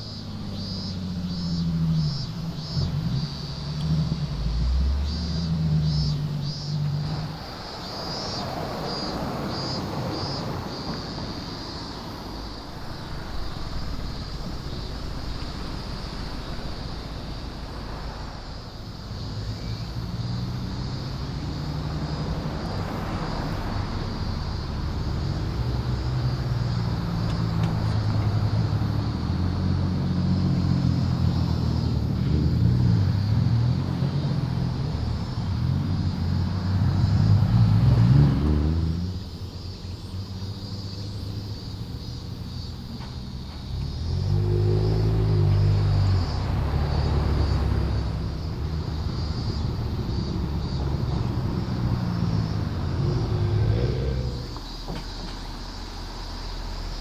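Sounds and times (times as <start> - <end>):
car engines at low revs: 0.0 - 57.0.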